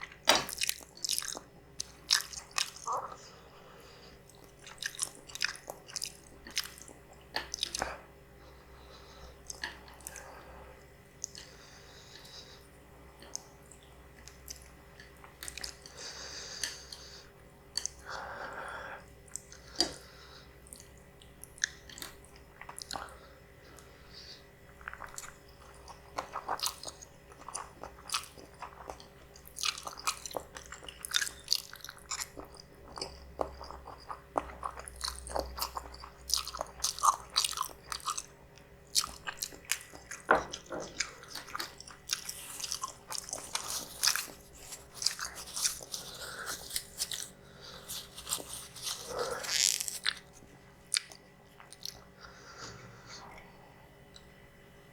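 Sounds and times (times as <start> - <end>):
person chewing noodles: 0.0 - 54.4.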